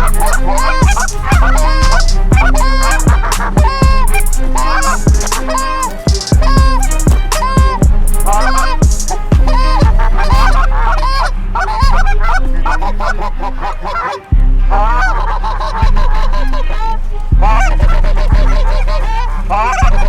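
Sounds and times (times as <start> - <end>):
geese honking: 0.0 - 20.0
hip-hop music with bass: 0.0 - 20.0.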